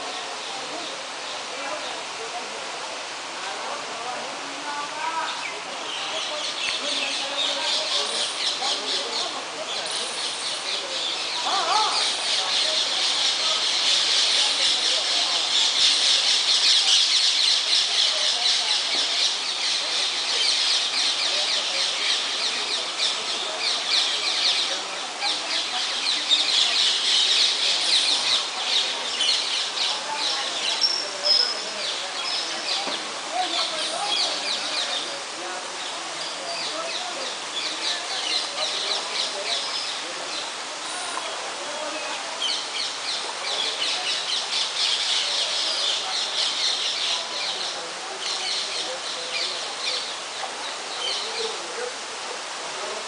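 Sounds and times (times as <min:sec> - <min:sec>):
birds chirping: 0:04.7 - 0:51.6.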